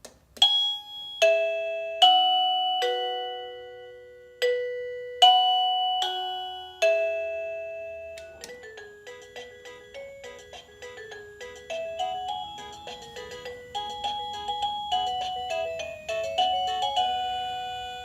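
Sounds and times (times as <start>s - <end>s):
electronic doorbell chime: 0.4s - 18.0s.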